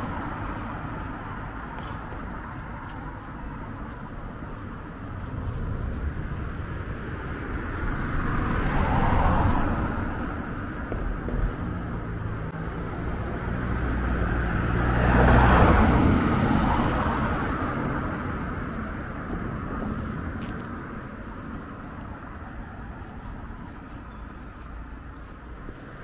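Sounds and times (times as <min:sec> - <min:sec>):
car passing by: 0:00.0 - 0:24.0.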